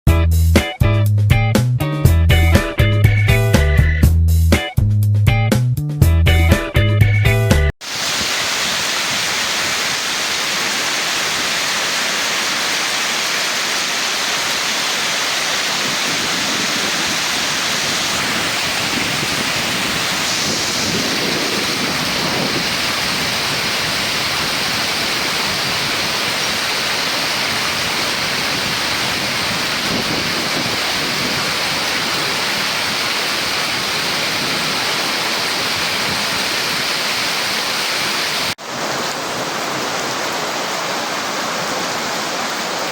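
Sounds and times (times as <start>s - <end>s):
torrential rain: 7.8s - 42.9s.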